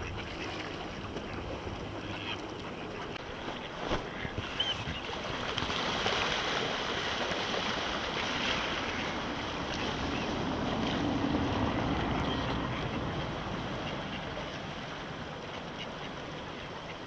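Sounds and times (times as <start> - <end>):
moving open water: 0.0 - 17.0.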